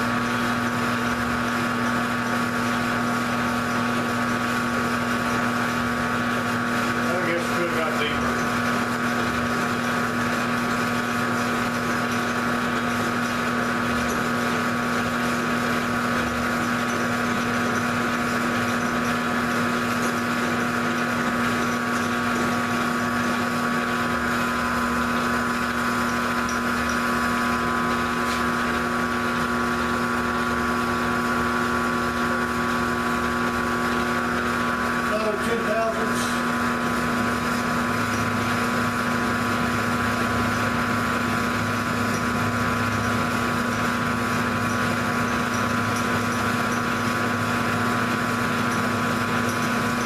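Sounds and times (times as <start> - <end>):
mill motor hum and whine: 0.0 - 50.0.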